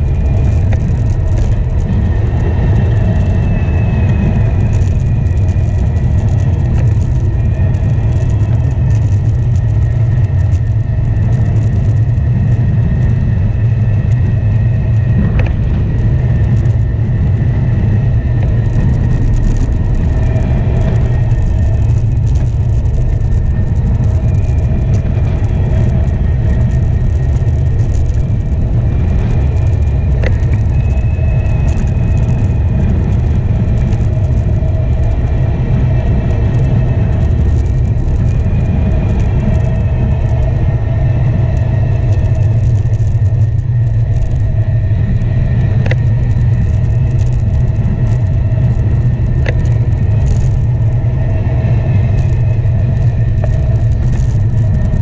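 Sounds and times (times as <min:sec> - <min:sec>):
faint whir of bike tyres: 0:00.0 - 0:55.0
wind buffeting microphone: 0:00.0 - 0:55.0.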